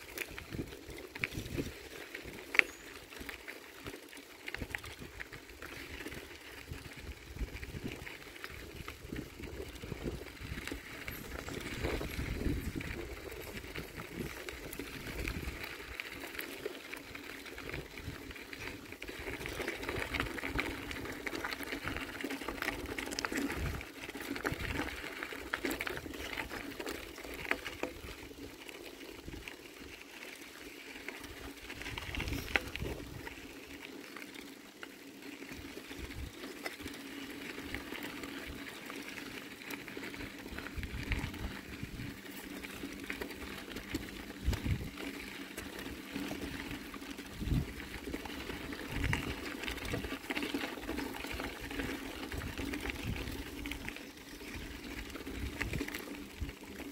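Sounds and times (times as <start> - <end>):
bicycle tyres crunching on gravel: 0.0 - 56.9.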